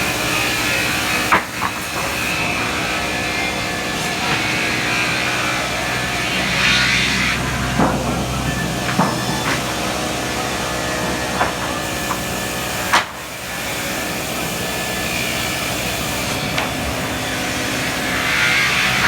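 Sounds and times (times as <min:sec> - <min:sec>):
sawmill machinery humming: 0:00.0 - 0:19.0.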